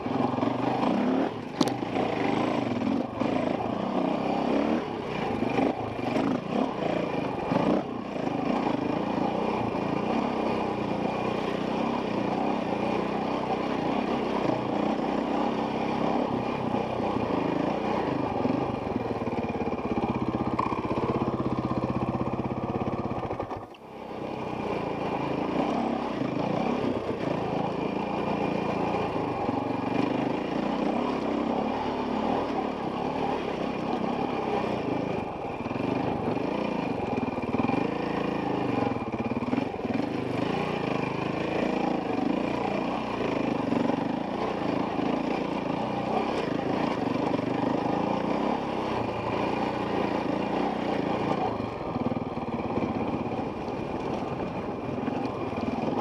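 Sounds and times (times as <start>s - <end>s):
dirt bike engine revving: 0.0s - 23.4s, 24.2s - 56.0s.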